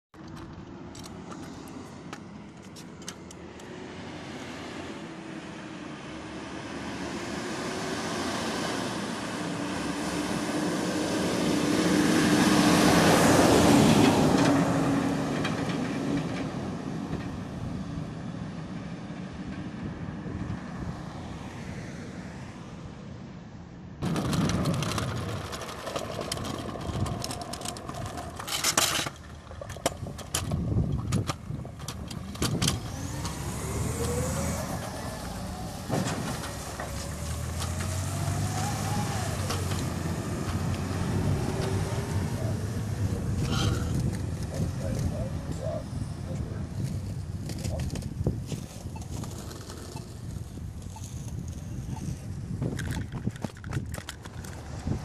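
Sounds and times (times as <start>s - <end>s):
rough traffic noise with crackles: 0.2s - 20.7s, 24.0s - 55.0s
dump truck passing: 3.4s - 23.2s, 24.0s - 52.8s.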